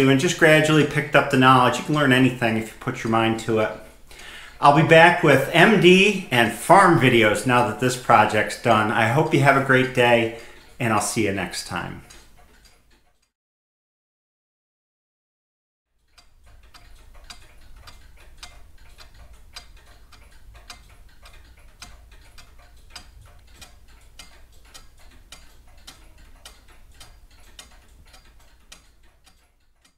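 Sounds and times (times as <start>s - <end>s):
pendulum clock ticking: 0.0s - 13.3s, 16.0s - 29.9s.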